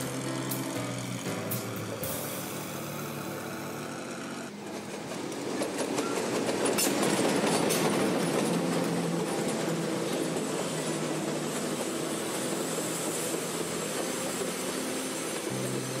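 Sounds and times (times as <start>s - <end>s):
heavy rumble of locomotives: 0.0s - 16.0s
wheels clicking over rails: 0.0s - 16.0s.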